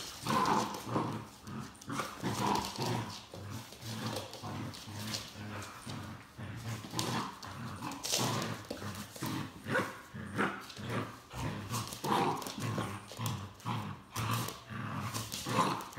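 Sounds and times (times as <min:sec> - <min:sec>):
claws clicking on wooden floor: 0:00.0 - 0:09.9, 0:10.5 - 0:15.9
dogs growling: 0:00.0 - 0:15.9.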